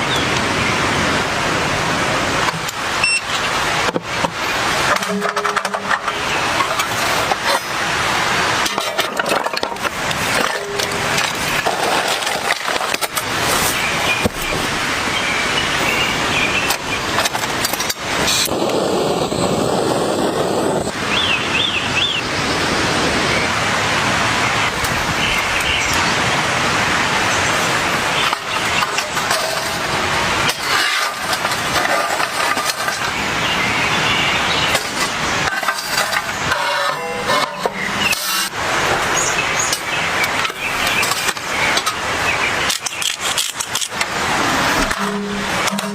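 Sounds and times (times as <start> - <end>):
heavy rain hissing: 0.0 - 36.9, 37.6 - 45.9.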